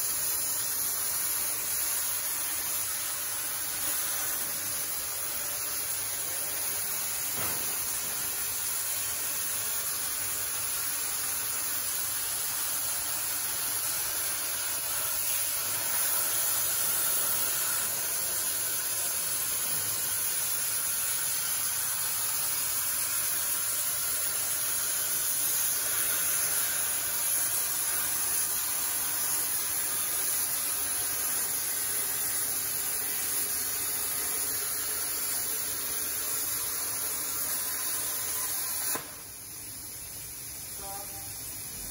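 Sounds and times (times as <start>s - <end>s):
plasma cutter torch hissing: 0.0s - 41.9s.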